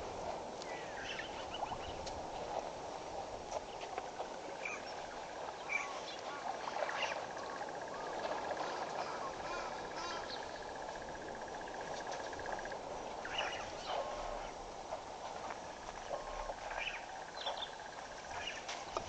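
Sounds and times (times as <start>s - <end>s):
steady outdoor hiss: 0.0s - 19.0s
wild birds chirping and calling: 0.6s - 2.0s, 4.6s - 19.0s.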